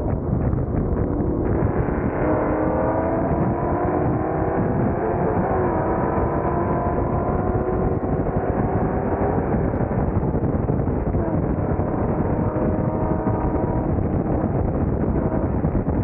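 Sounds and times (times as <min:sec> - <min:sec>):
car engine at highway speed: 0:00.0 - 0:16.0
road and wind noise: 0:00.0 - 0:16.0.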